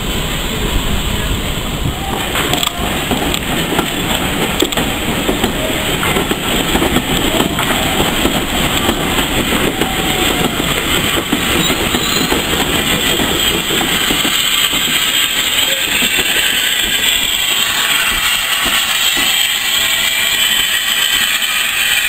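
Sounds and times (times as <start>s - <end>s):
train coaches rumbling past: 0.0s - 22.0s
wheels clicking over rail joints: 2.0s - 21.3s.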